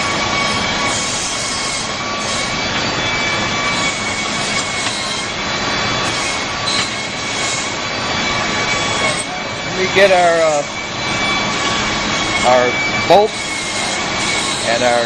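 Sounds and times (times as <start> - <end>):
high whining tones: 0.0 - 15.0.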